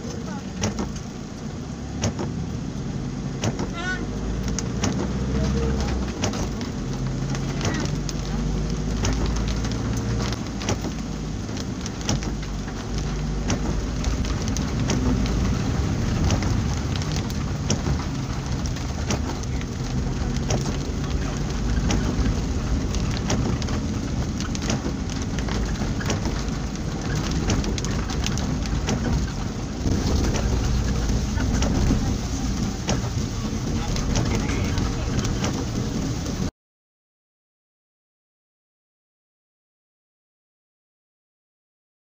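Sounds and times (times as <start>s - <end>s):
engine and tyres on wet road: 0.0s - 36.5s
heavy rain hitting vehicle roof: 0.0s - 36.5s.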